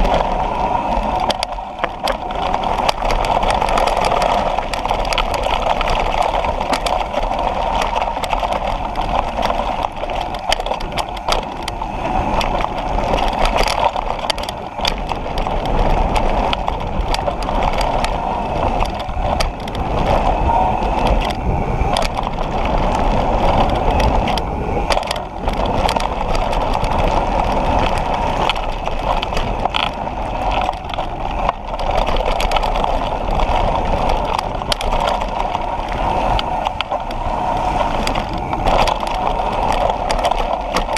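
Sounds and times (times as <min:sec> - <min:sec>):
bike rattling and clicking: 0:00.0 - 0:40.9
wind and tyre noise: 0:00.0 - 0:40.9.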